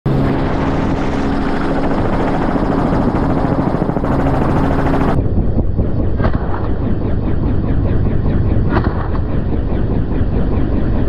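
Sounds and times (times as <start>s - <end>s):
helicopter rotor and engine noise: 0.1s - 11.0s.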